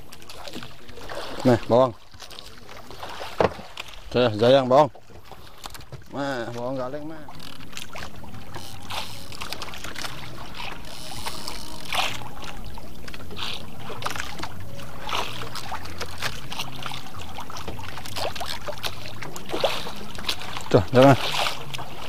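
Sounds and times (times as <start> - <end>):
boat engine hum: 0.0 - 22.0
water splashing against hull: 0.0 - 22.0.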